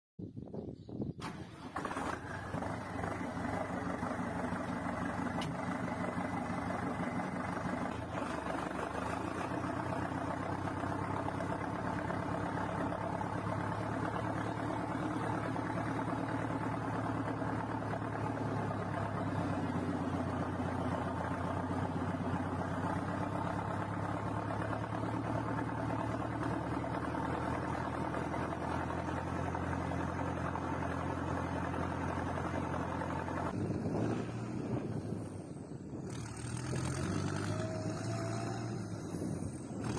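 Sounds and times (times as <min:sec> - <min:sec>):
tractor diesel engine running: 0:01.0 - 0:39.9.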